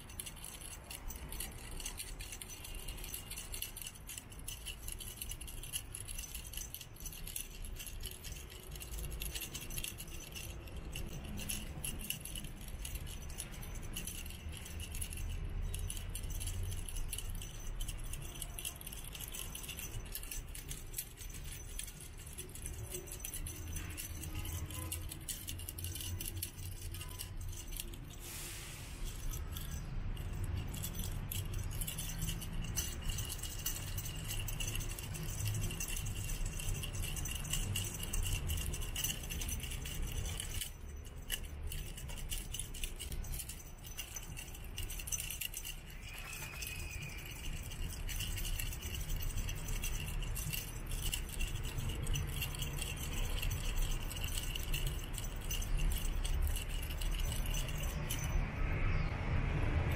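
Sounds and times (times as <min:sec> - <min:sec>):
cat toy rattling and jingling: 0:00.0 - 0:59.1.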